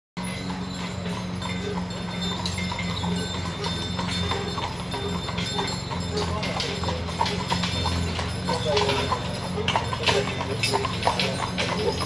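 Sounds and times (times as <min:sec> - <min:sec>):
horse hooves on pavement: 0:00.2 - 0:12.0.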